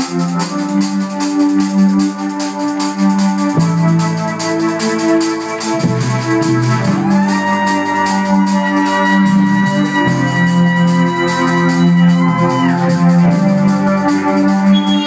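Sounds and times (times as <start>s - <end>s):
electronic keyboard chords: 0.0s - 15.0s
hi-hat beat: 0.0s - 15.0s.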